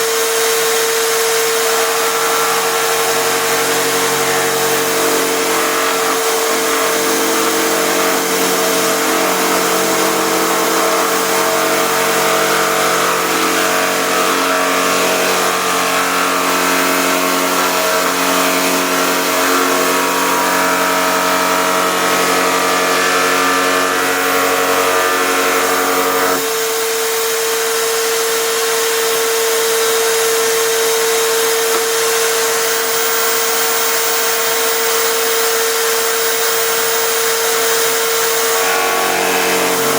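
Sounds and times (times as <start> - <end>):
drill spinning router bit: 0.0 - 39.9.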